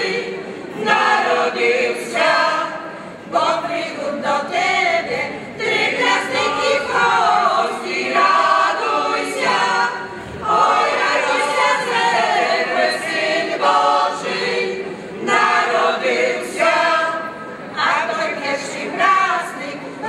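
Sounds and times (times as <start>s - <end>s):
mixed choir singing a carol: 0.0s - 20.0s.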